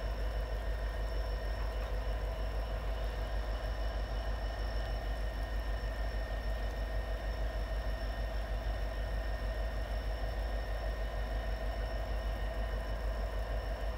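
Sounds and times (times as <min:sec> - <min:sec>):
engine idling: 0:00.0 - 0:13.9.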